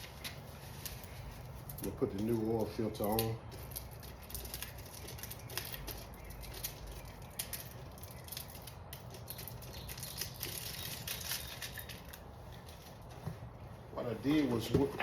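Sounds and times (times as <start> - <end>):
packaging rustling and clicks: 0.0 - 13.1.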